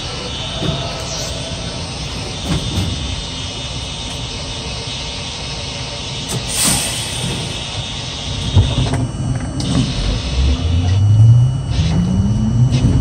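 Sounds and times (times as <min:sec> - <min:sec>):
subway car wheels rumbling on rail: 0:00.0 - 0:13.0.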